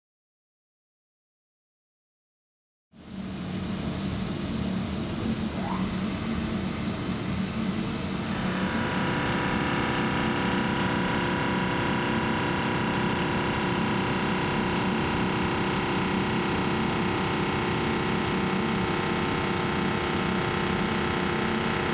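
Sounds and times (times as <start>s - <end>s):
machine low hum: 3.0s - 21.9s.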